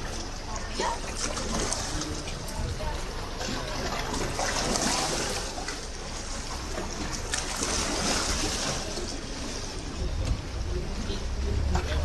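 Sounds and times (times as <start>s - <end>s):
water washing and splashing: 0.0s - 12.0s.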